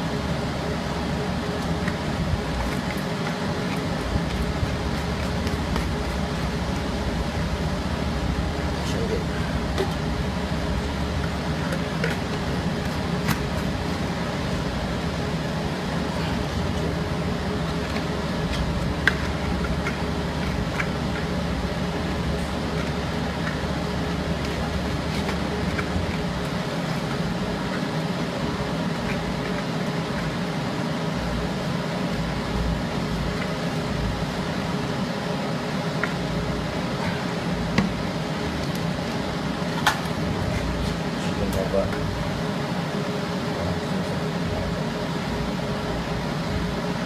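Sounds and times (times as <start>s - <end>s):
machine fan and conveyor hum: 0.0s - 47.0s.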